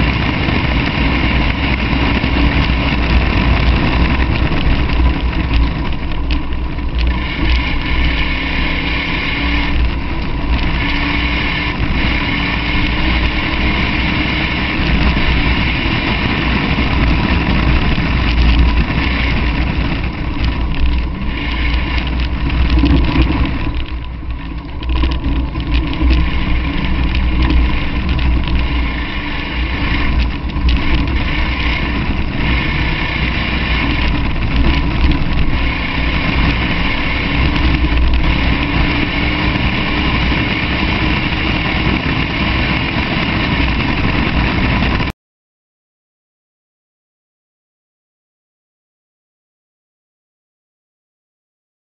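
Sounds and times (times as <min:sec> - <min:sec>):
car engine under load: 0:00.0 - 0:45.1
wind and road noise: 0:00.0 - 0:45.1.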